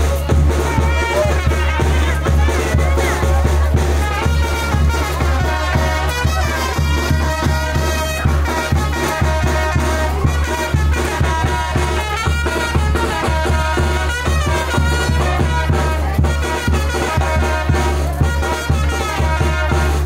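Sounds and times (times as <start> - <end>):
latin dance music with brass: 0.0 - 20.0.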